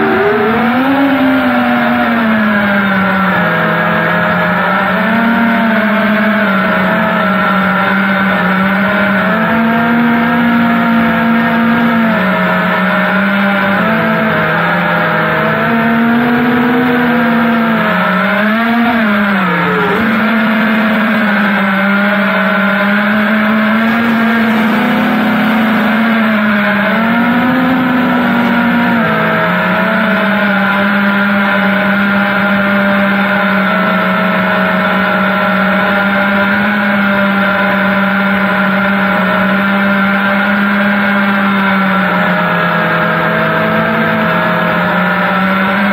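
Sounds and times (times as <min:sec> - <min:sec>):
quadcopter motors whining: 0:00.0 - 0:45.9.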